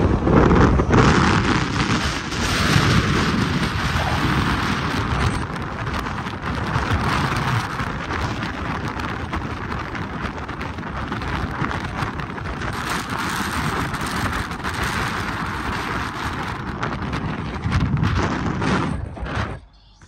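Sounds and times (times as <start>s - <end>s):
wind gusting over microphone: 0.0s - 19.7s
car road noise: 0.0s - 20.0s.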